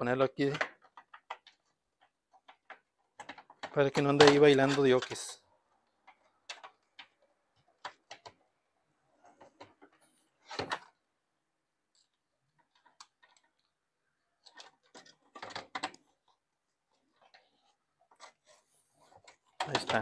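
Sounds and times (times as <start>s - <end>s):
plastic parts clicking and knocking: 0.0s - 11.2s, 11.8s - 20.0s.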